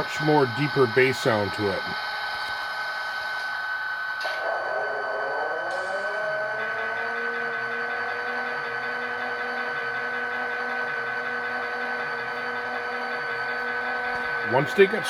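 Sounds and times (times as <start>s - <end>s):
low humming tones: 0.0s - 15.0s.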